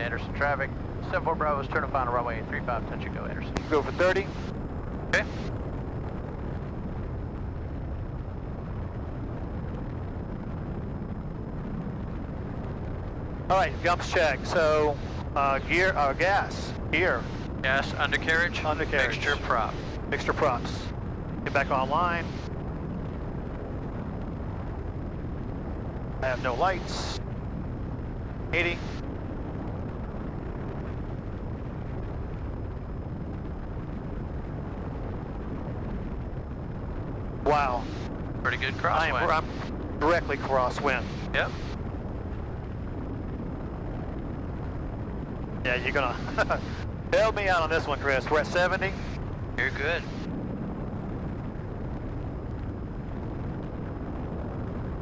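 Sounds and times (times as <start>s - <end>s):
aircraft engine and propeller drone: 0.0s - 55.0s
airflow noise: 0.0s - 55.0s.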